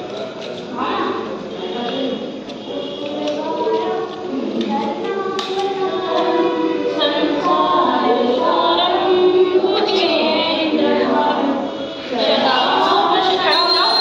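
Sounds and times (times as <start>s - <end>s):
women singing a hymn: 0.0s - 14.0s.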